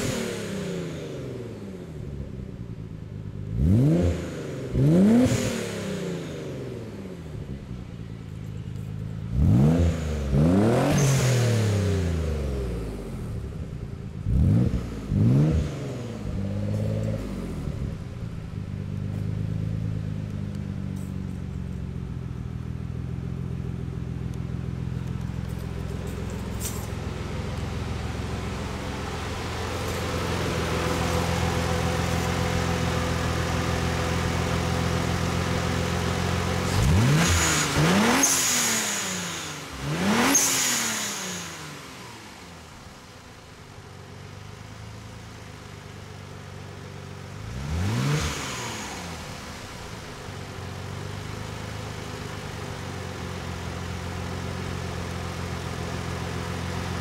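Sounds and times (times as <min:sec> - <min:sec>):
car engine revving: 0:00.0 - 0:02.6, 0:03.3 - 0:08.2, 0:08.8 - 0:21.1, 0:23.0 - 0:57.0.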